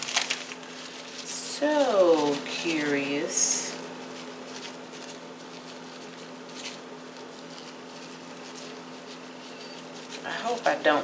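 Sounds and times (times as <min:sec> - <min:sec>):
dry oatmeal patter: 0:00.0 - 0:11.0.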